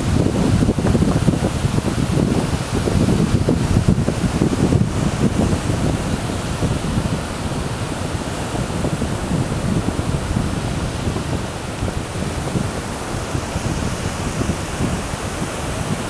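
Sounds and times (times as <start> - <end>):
wind blowing over microphone: 0.0 - 16.0.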